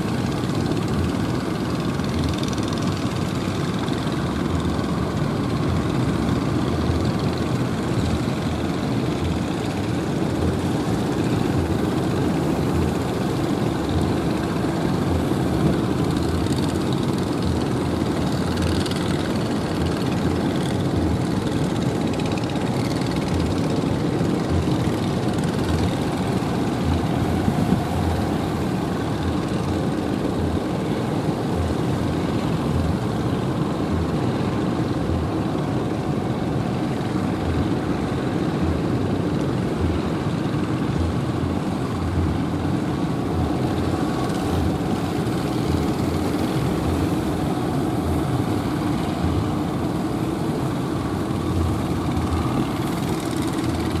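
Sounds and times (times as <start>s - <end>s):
boat engines droning: 0.0s - 54.0s.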